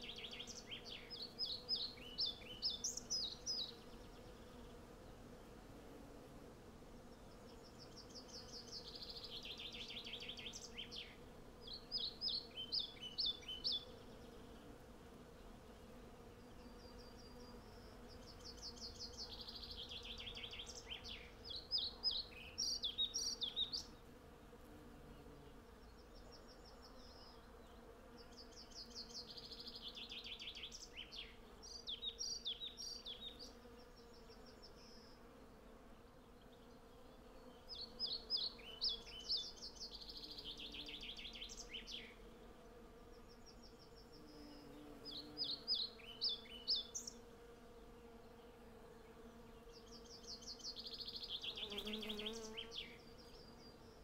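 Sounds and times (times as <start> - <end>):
songbird singing: 0.0 - 5.2, 7.0 - 14.6, 16.3 - 24.0, 25.1 - 35.3, 36.0 - 54.0
bees humming: 7.0 - 54.0.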